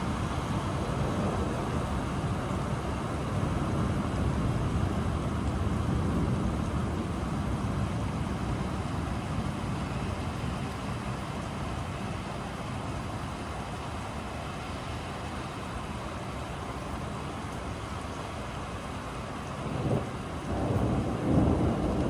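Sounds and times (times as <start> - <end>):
storm rain: 0.0 - 22.0.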